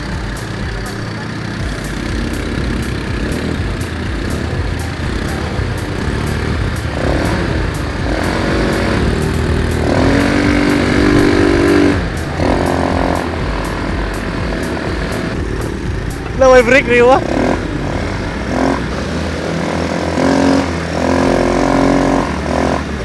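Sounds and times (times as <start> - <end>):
atv engines running: 0.0 - 23.0
quads riding close by: 0.0 - 23.0.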